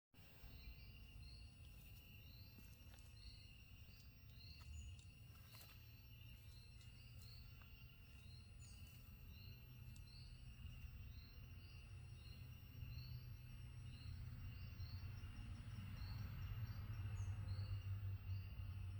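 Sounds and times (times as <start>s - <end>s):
high insect drone: 0.2s - 18.9s.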